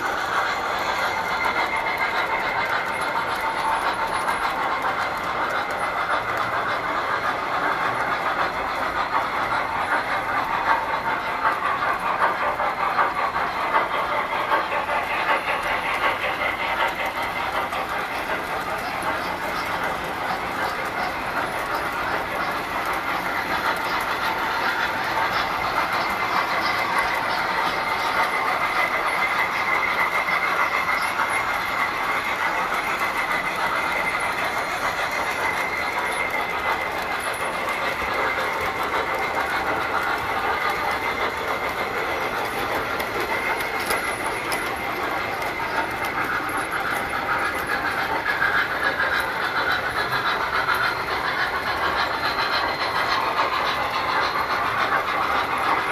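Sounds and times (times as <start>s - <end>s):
metal wheels rattling on rails: 0.0s - 55.9s.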